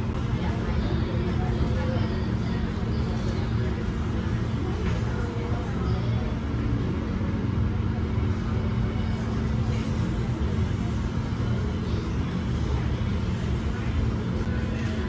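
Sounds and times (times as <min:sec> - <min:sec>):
constant low hum: 0:00.0 - 0:15.0
low room rumble: 0:00.0 - 0:15.0.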